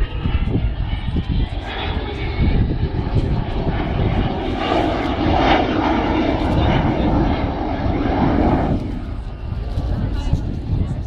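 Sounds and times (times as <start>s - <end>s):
jet aircraft roar: 0.0s - 11.0s.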